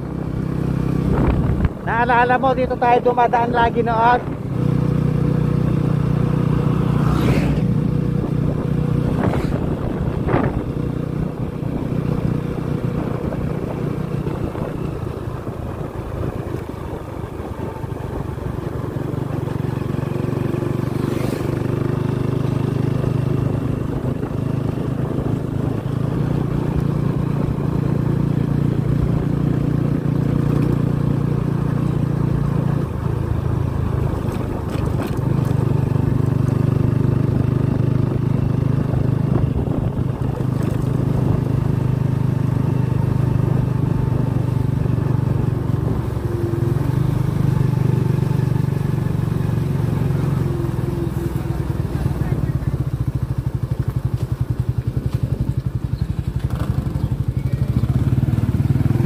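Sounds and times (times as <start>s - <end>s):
motorcycle engine cruising: 0.0s - 59.0s
road and wind noise: 0.0s - 59.0s.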